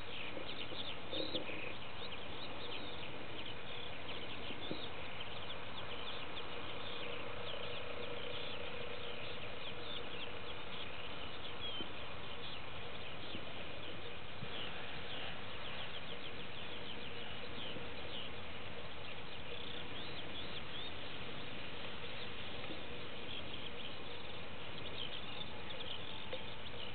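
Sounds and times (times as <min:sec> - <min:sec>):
outdoor background hiss: 0:00.0 - 0:26.9
small birds chirping: 0:00.0 - 0:26.9.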